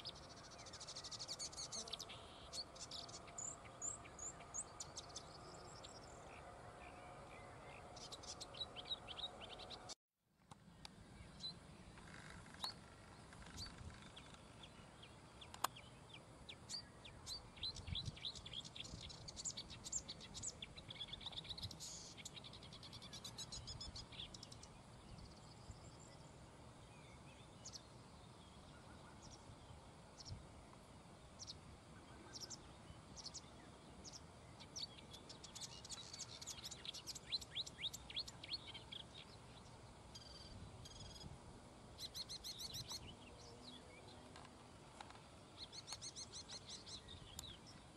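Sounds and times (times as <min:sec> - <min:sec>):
warbler singing fast chatter: 0:00.0 - 0:09.9, 0:12.5 - 0:26.2, 0:31.4 - 0:44.3, 0:45.5 - 0:47.9.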